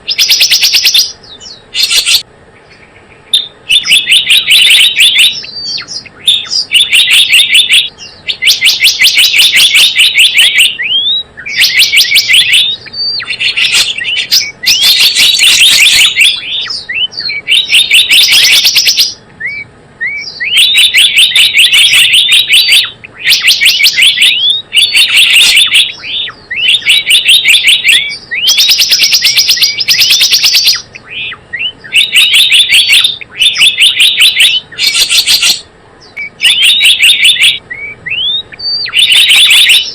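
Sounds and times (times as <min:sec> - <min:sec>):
bird chattering high chirps: 0:00.0 - 0:39.9.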